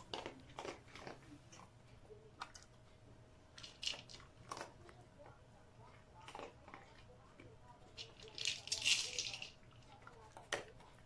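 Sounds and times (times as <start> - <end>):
dry kibble crunching and clicking: 0.0 - 1.7, 2.4 - 2.9, 3.5 - 11.0.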